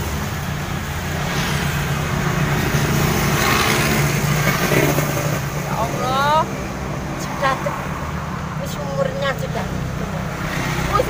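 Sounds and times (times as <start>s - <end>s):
street traffic noise: 0.0s - 11.0s
vehicle engine humming: 0.0s - 11.0s.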